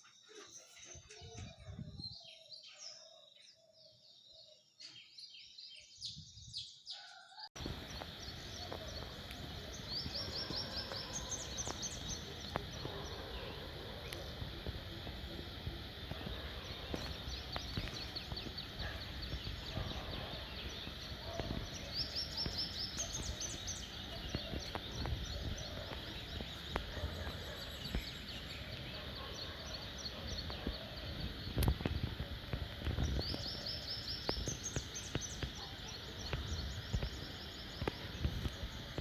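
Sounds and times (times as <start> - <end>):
birds chirping and trilling: 0.0 - 39.0
background hiss: 7.6 - 39.0.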